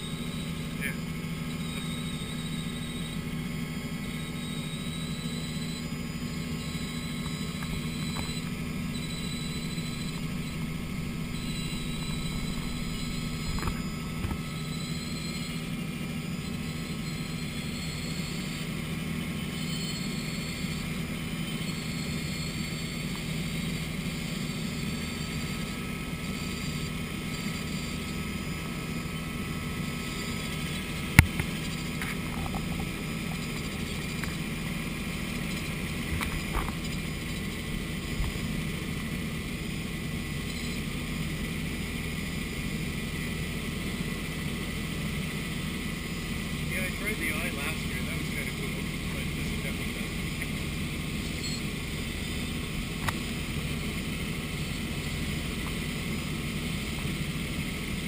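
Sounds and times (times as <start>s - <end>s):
helicopter engine and rotors: 0.0s - 58.0s.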